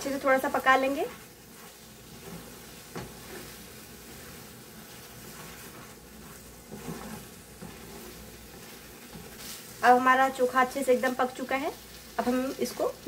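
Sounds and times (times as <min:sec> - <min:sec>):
food sizzling in a pan: 0:00.0 - 0:13.0
wooden spoon stirring: 0:00.0 - 0:13.0.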